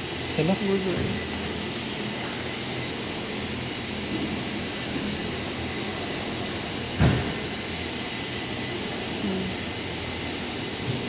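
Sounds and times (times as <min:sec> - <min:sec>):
workshop low hum: 0:00.0 - 0:11.0.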